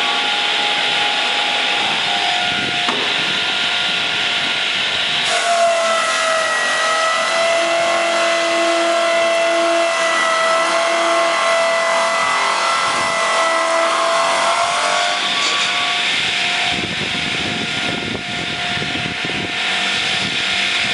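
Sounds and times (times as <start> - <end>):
circular saw cutting log: 0.0 - 20.9.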